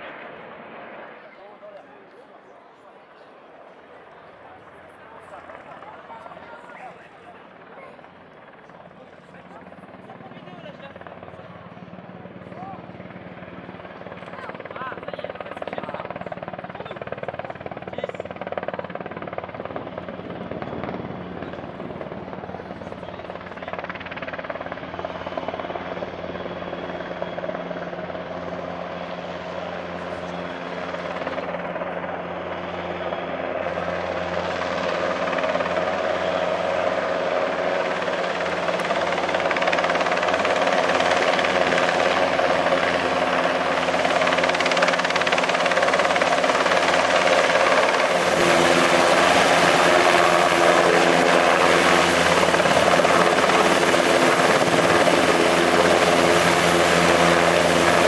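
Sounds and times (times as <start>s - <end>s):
helicopter rotor and engines: 0.0s - 58.0s.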